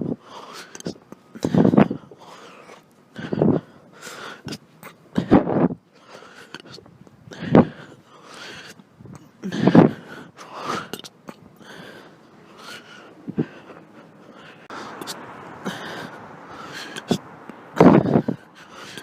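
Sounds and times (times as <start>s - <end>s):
faint breathing: 0.0s - 19.0s.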